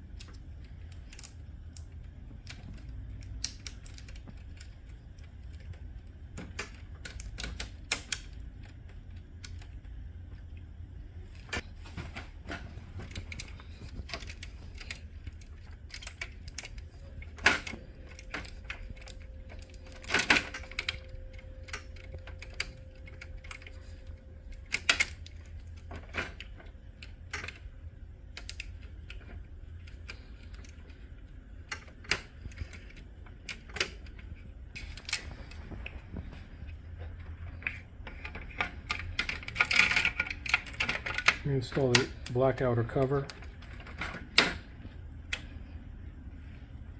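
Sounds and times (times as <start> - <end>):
low steady hum: 0.0 - 46.9
plastic parts clicking into place: 0.1 - 10.0, 11.4 - 45.8.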